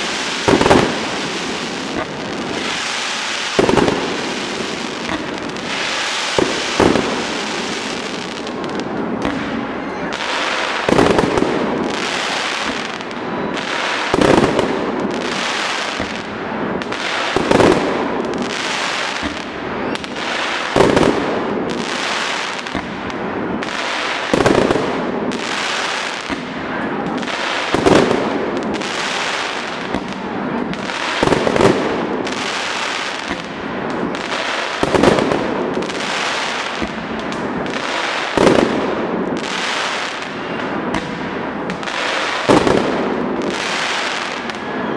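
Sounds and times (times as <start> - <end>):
firework bangs: 0.0 - 44.9
fireworks crackling and popping: 0.0 - 44.9.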